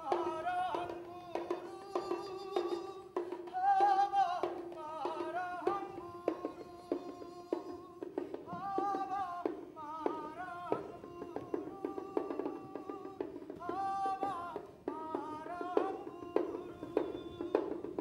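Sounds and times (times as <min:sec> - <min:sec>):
sharp percussion strokes: 0:00.0 - 0:18.0.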